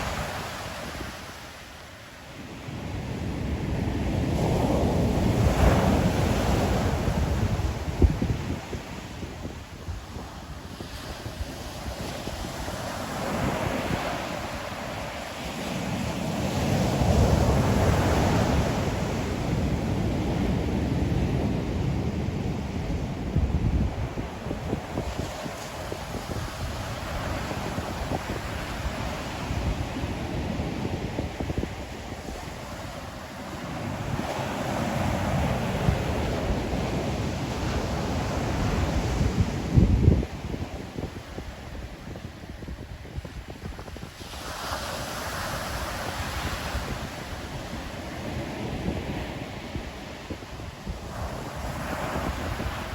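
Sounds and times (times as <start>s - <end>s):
wind rumble on microphone: 0.0s - 1.7s, 2.3s - 52.9s
ocean waves breaking on shore: 0.0s - 52.9s.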